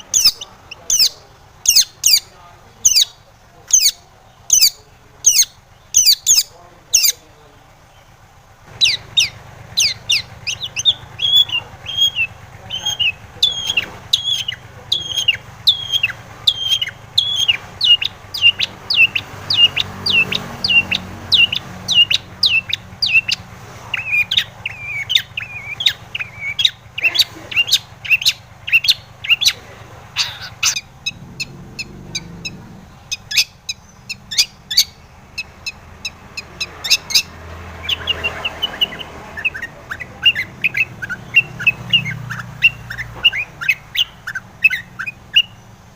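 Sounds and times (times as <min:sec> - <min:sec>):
bird chirping sharply: 0:00.0 - 0:08.1, 0:08.8 - 0:45.9.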